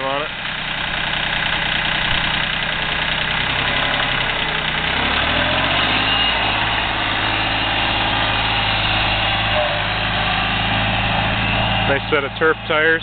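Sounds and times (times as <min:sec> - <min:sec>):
diesel tractor engine revving: 0:00.0 - 0:13.0.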